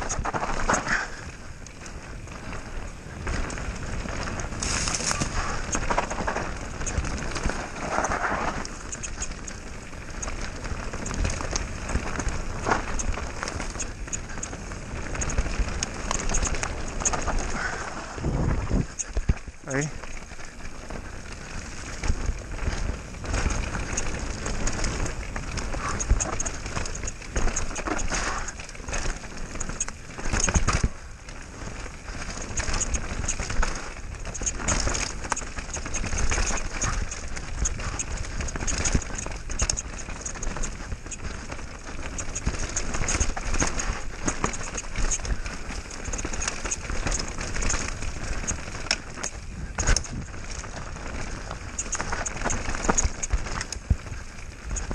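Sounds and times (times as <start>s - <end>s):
bike rattles and knocks: 0.0s - 54.9s
bike tyres on dirt and stones: 0.0s - 54.9s.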